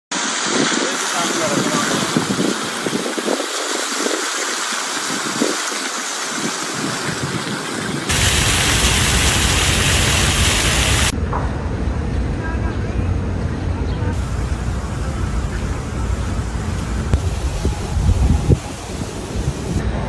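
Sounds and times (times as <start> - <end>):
fountain water rushing and splashing: 0.1 - 11.2, 14.2 - 19.8.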